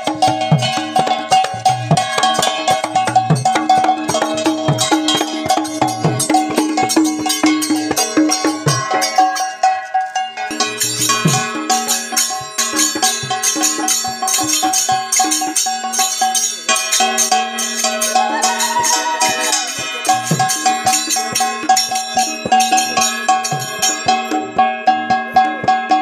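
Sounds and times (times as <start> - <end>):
fast percussion strikes: 0.0 - 26.0
held notes: 0.0 - 26.0.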